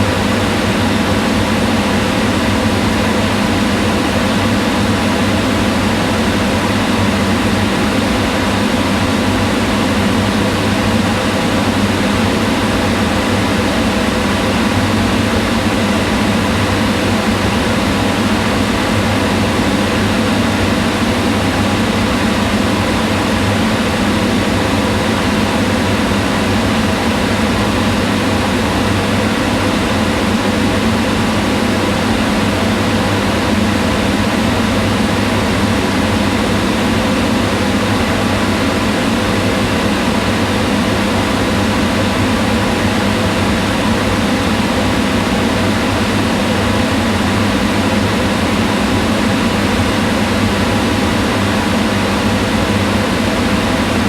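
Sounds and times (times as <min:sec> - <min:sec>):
range hood fan running: 0:00.0 - 0:54.0.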